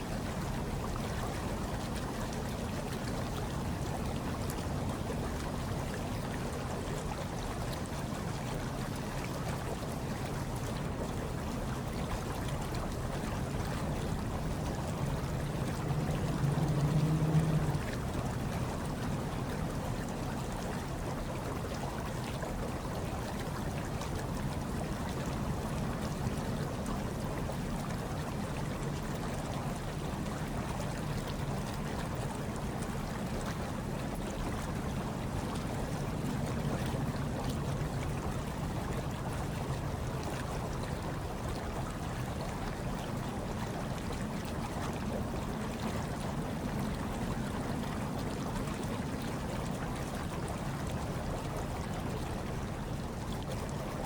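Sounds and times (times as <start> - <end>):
hot tub water churning: 0.0 - 54.0.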